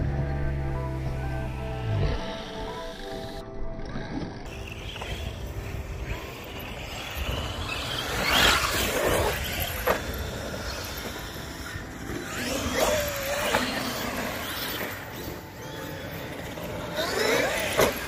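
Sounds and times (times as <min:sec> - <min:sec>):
electric rc trucks running: 0:01.8 - 0:18.0.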